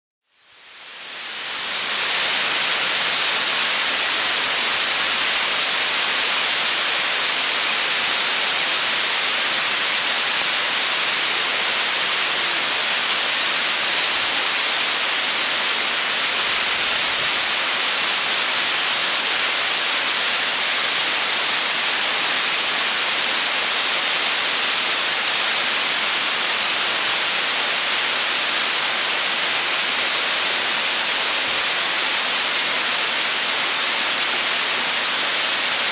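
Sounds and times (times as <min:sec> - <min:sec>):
waterfall pouring into pool: 0:00.5 - 0:35.9.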